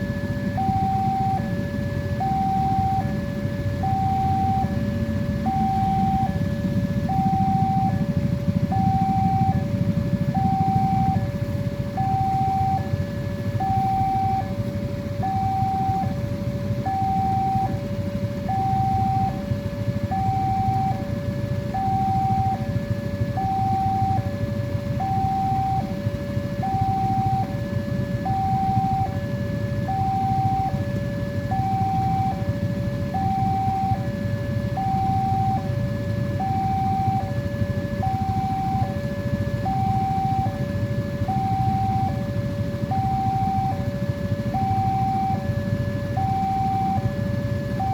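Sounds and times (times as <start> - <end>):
two-tone level crossing alarm: 0.0 - 47.9.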